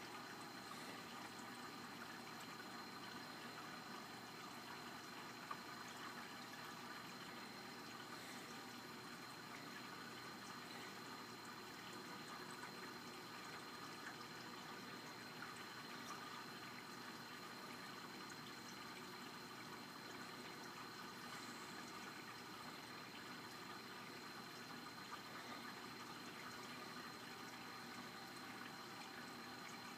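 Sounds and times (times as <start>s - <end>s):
aquarium water circulating: 0.0s - 29.9s.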